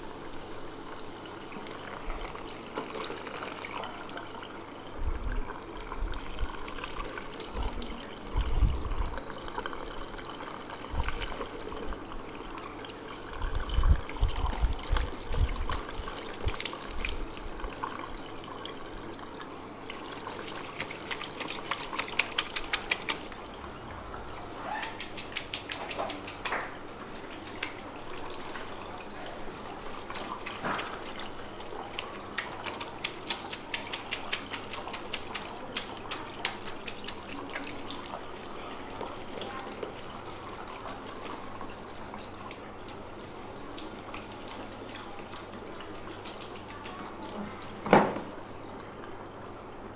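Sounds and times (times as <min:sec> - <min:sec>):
shower water splashing into basin: 0:06.2 - 0:48.4.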